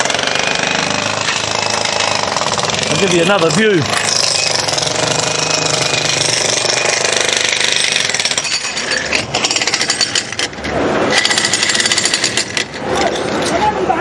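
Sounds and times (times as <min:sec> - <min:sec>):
jackhammer on masonry: 0:00.0 - 0:13.8.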